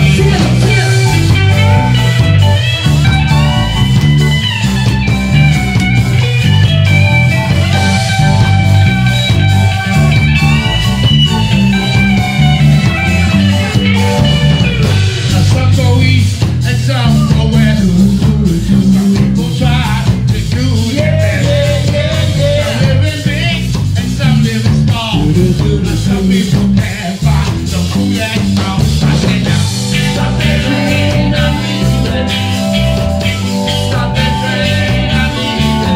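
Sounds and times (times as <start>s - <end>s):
reggae band playing: 0.0s - 35.9s
stepping bass line: 0.0s - 35.9s.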